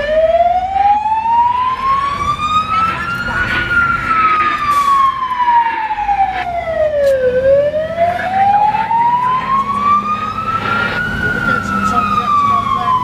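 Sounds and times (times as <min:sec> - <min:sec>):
fire engine siren wailing: 0:00.0 - 0:13.0
low vehicle rumble: 0:01.4 - 0:13.0.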